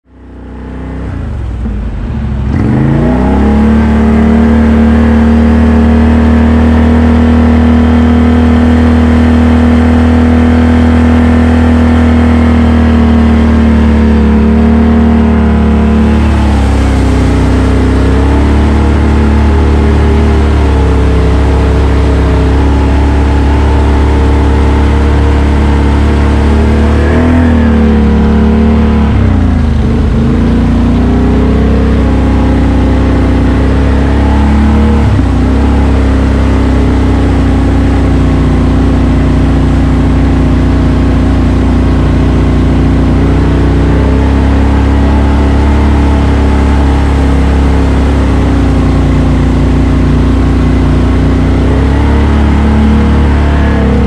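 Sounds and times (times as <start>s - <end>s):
atv engine running: 0.1s - 54.0s.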